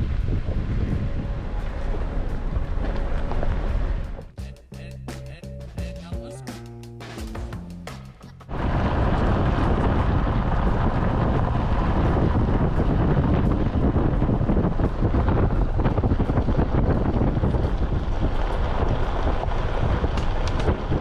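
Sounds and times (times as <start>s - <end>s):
wind buffeting microphone: 0.0s - 4.4s, 8.5s - 21.0s
vehicle rumbling on dirt road: 0.0s - 5.6s, 7.4s - 21.0s.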